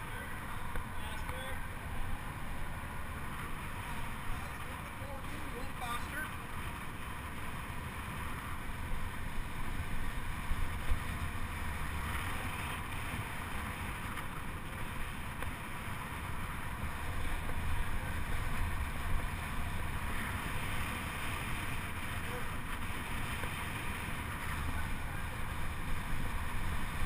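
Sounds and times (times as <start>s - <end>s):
low rumble of tyres on boards: 0.0s - 27.0s.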